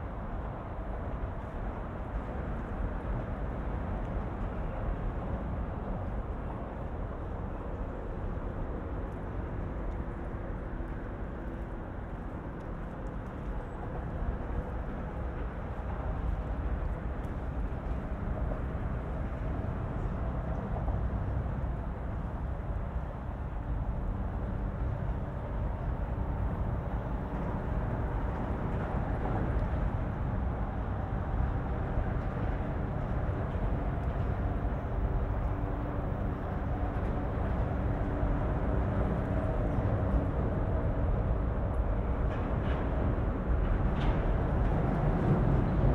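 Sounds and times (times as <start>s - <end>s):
faint engine hum: 0.0s - 45.9s.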